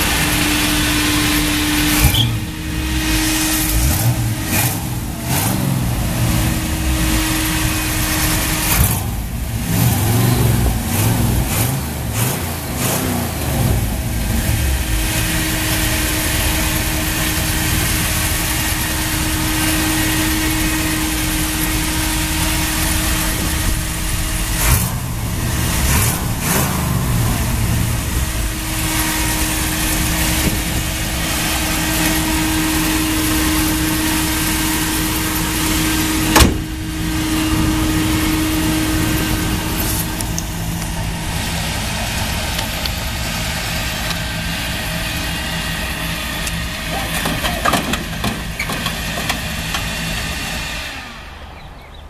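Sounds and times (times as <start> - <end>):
steady whine: 0.0 - 51.6
car engine running: 0.0 - 52.0.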